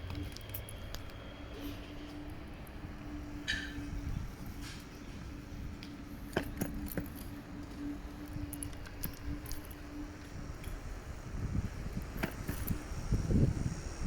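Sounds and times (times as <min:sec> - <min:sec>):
electric scooter hum: 0:00.0 - 0:14.0.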